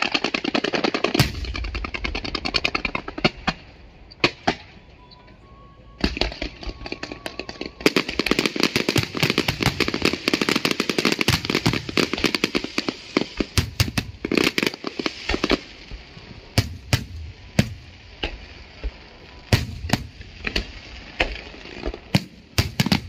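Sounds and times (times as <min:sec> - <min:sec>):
loud firework bangs: 0:00.0 - 0:04.8, 0:06.0 - 0:23.0
fireworks crackling: 0:00.0 - 0:05.0, 0:06.0 - 0:23.0.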